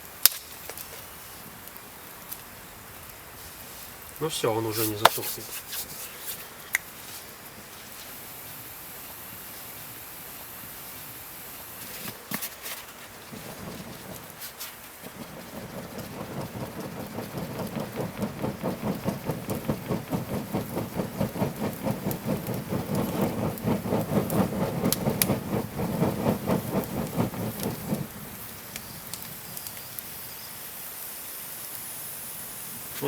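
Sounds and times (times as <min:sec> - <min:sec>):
low hiss of fire: 0:00.0 - 0:33.0
cardboard fanning air puffs: 0:00.8 - 0:33.0.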